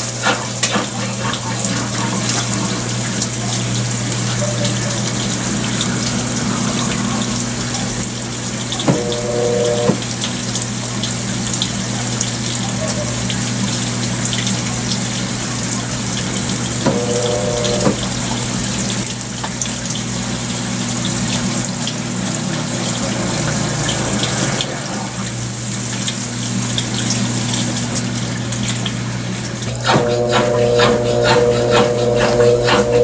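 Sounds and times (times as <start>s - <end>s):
water rushing and splashing: 0.0s - 12.5s, 13.1s - 33.0s
drain pump hum: 0.0s - 33.0s.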